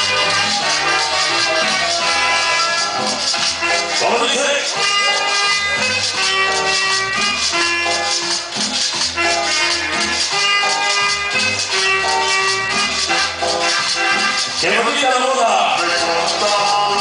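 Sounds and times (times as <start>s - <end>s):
latin dance music: 0.0s - 17.0s.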